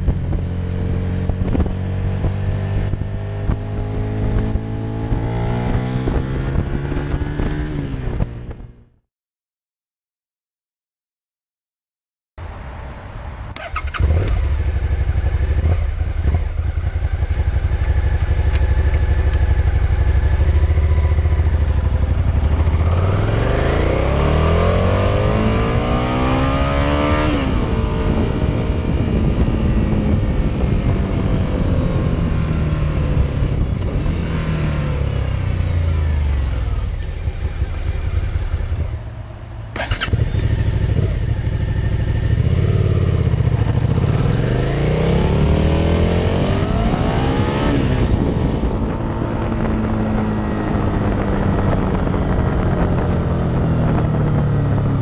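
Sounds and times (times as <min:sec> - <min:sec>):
motorcycle engine revving: 0:00.0 - 0:09.0, 0:13.6 - 0:55.0.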